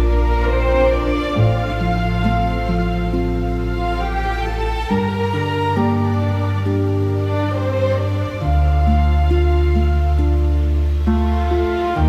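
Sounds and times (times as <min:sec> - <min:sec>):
soft instrumental background music: 0:00.0 - 0:12.0.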